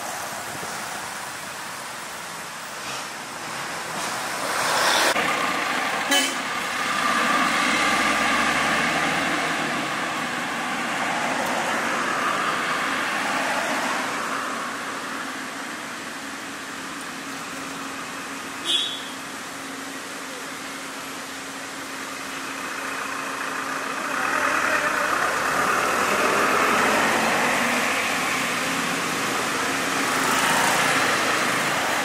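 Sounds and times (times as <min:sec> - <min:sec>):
traffic driving past: 0:00.0 - 0:32.0.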